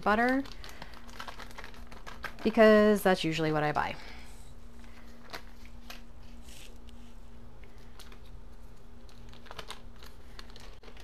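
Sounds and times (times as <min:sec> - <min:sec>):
butter wrappers rustling: 0:00.0 - 0:03.5, 0:04.5 - 0:11.0
faint hum: 0:00.0 - 0:11.0.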